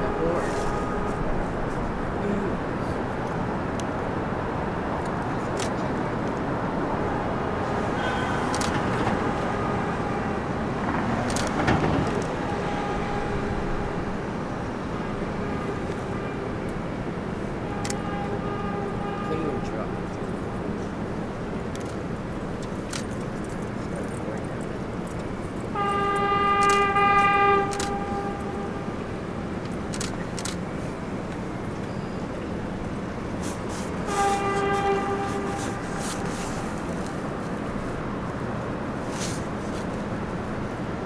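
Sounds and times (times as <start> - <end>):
city traffic rumble: 0.0 - 41.0
distant train on elevated tracks: 0.0 - 41.0.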